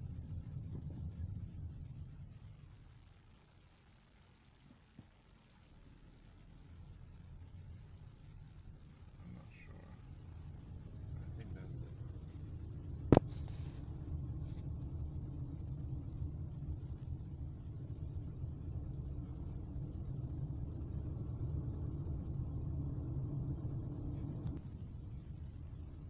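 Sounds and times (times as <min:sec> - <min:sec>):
car driving in traffic rumble: 0:00.0 - 0:03.0, 0:05.7 - 0:26.0.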